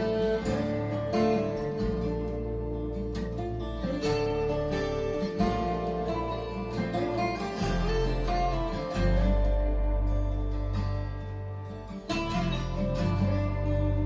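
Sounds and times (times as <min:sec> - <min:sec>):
acoustic guitar strumming: 0:00.0 - 0:14.0
deep bass line: 0:00.0 - 0:14.0.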